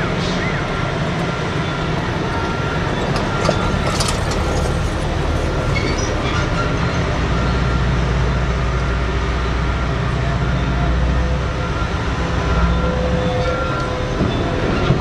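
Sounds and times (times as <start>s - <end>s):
dump truck diesel engines running: 0.0s - 15.0s.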